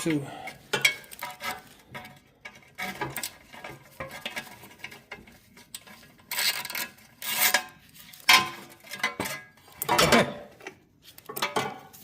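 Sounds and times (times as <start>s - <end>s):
metallic scraping rattle: 0.6s - 10.3s.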